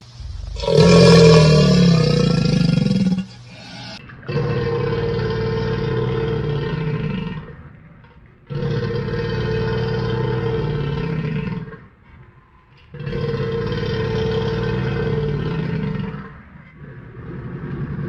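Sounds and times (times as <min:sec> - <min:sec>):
crocodile bellowing: 0:00.1 - 0:07.8, 0:08.5 - 0:12.0, 0:12.9 - 0:18.0.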